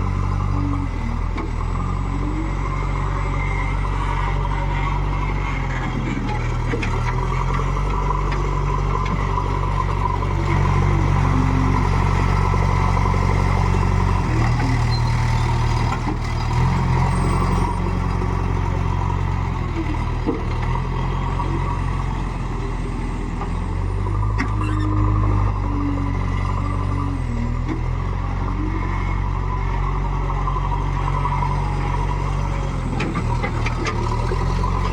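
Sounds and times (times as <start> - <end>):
diesel engine under load: 0.0 - 34.9.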